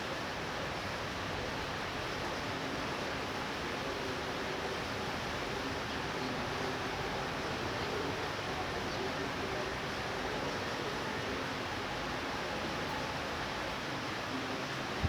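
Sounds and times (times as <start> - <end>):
steady light rain: 0.0 - 15.0.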